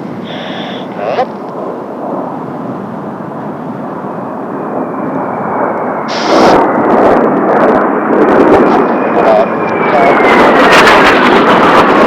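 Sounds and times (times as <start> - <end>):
high jet whine: 0.0 - 12.0
jet planes flying past: 0.0 - 12.0.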